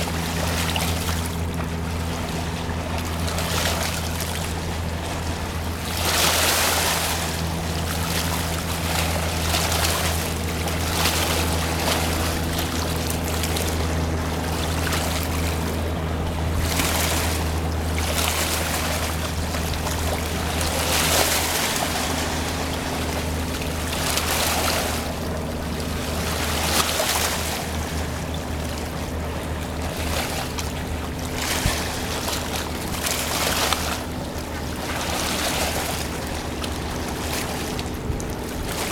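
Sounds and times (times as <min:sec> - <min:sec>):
rushing water wash: 0:00.0 - 0:38.9
steamer machinery droning: 0:00.0 - 0:38.9.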